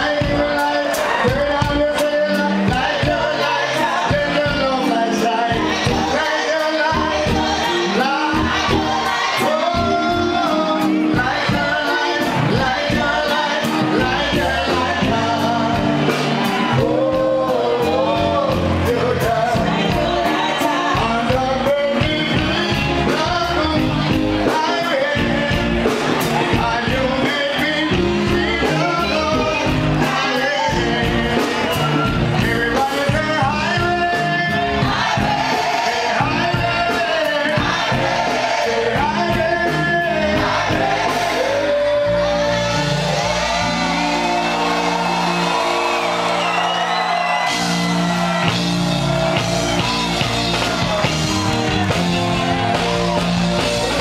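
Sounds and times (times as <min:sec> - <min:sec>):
lead singer singing: 0:00.0 - 0:54.0
live reggae band: 0:00.0 - 0:54.0
steady drum beat: 0:00.0 - 0:54.0.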